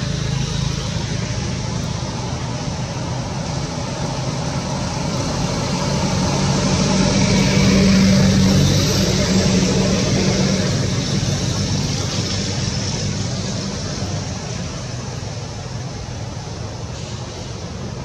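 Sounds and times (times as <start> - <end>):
outdoor noise: 0.0 - 18.0
vehicle engine humming: 0.0 - 18.0.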